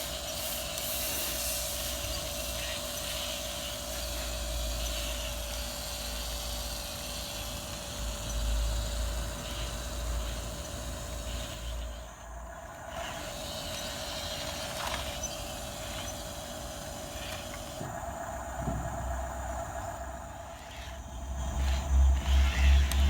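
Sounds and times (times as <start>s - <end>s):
small electric motors whining: 0.0s - 23.0s.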